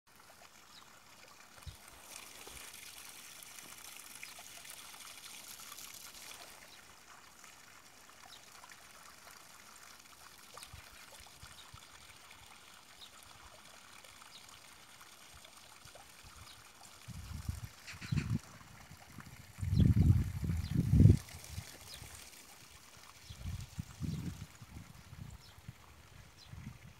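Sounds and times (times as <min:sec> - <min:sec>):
trickle of running water: 0:00.1 - 0:26.9.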